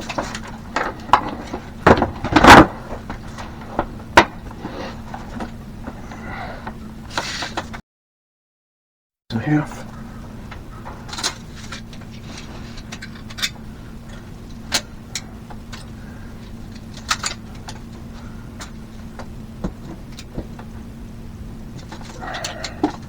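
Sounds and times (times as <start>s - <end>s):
steady low hum: 0.0s - 7.8s, 9.3s - 23.0s.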